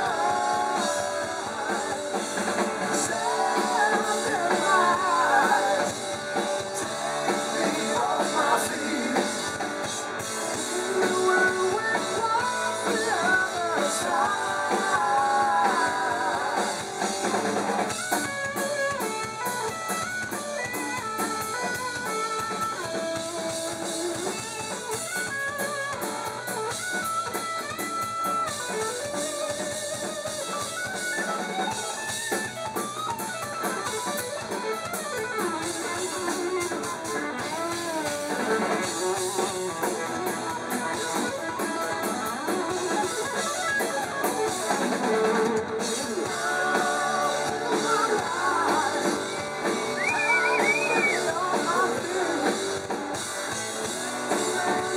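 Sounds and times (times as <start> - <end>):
bass guitar: 0.0 - 54.9
drum kit: 0.0 - 54.9
electric guitar lead: 0.0 - 54.9.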